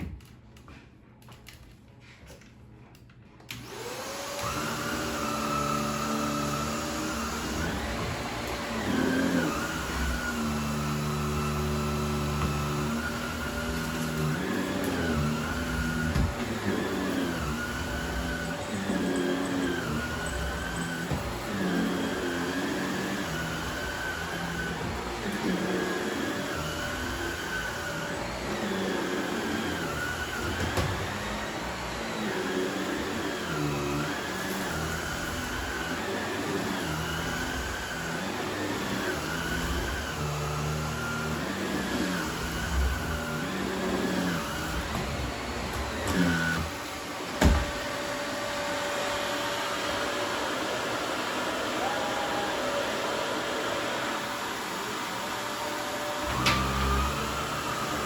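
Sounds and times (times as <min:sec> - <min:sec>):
vacuum cleaner motor running: 0:03.5 - 0:58.0.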